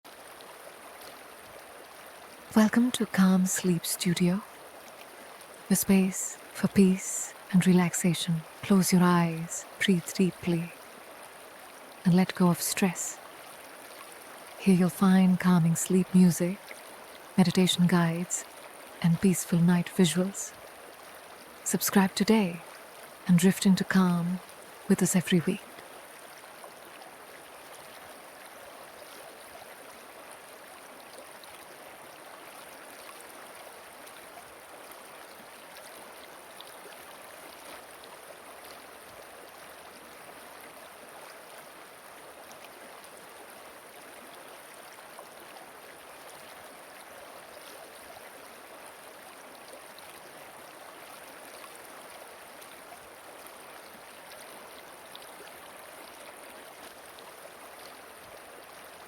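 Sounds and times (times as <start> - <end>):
river flowing: 0.1 - 59.0.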